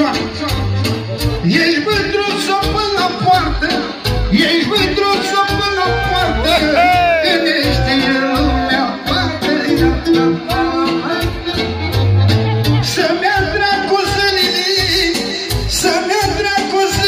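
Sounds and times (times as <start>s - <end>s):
live band with pulsing beat: 0.0s - 17.0s
person singing: 1.4s - 17.0s.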